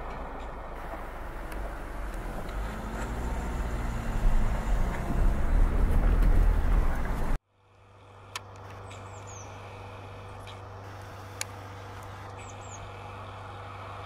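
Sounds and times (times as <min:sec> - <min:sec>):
car engine and road rumble: 0:00.0 - 0:14.0
low hum: 0:00.0 - 0:14.0.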